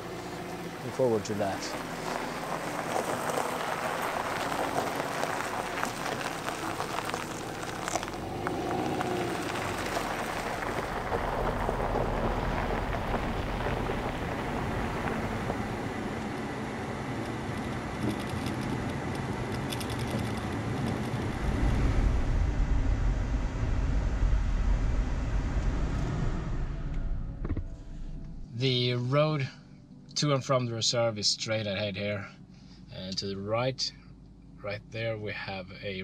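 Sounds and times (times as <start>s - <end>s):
road and tyre noise: 0.0s - 29.3s
deep rumble: 0.0s - 30.2s.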